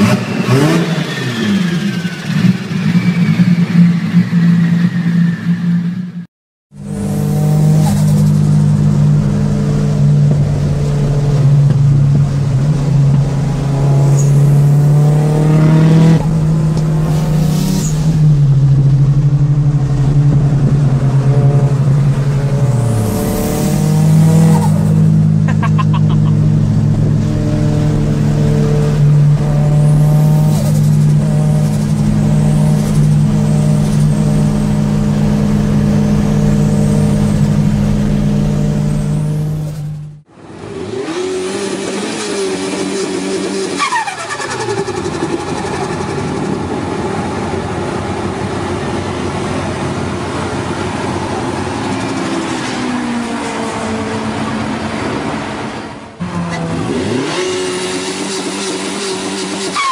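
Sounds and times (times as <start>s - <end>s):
car engine revving: 6.7s - 47.1s, 49.3s - 59.9s.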